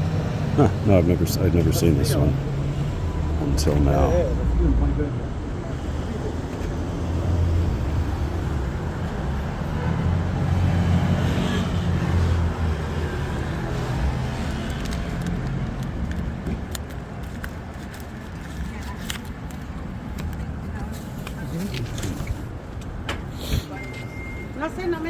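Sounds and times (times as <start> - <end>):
vehicle engine rumble passing: 0.0 - 23.6
city background noise: 0.0 - 25.0.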